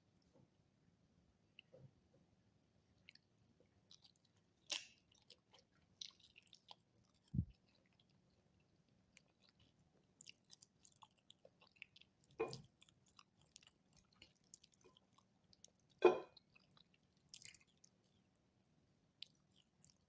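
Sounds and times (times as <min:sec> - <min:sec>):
person chewing food: 0:03.0 - 0:18.4, 0:19.1 - 0:20.0.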